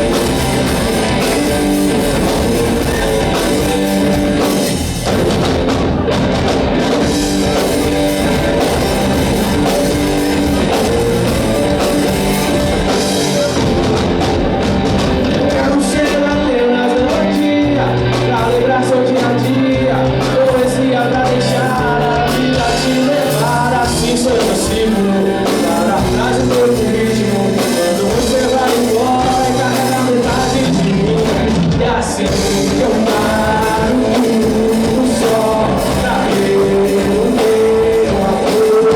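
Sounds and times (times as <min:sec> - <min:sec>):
person singing: 0:00.0 - 0:05.3, 0:06.8 - 0:14.6, 0:15.2 - 0:38.9
rock band playing: 0:00.0 - 0:38.9.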